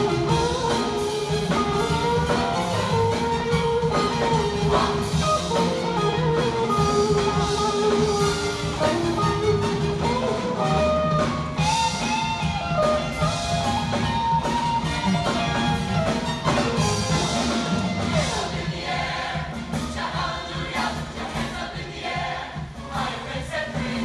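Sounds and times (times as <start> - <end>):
choir singing with drums and guitar: 0.0 - 24.0.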